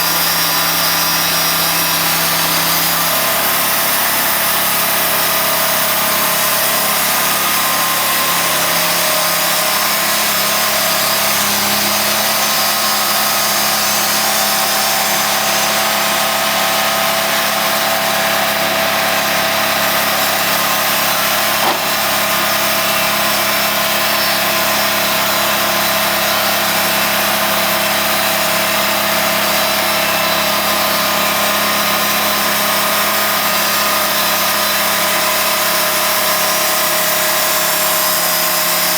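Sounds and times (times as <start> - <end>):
sawmill blade cutting log: 0.0 - 38.9.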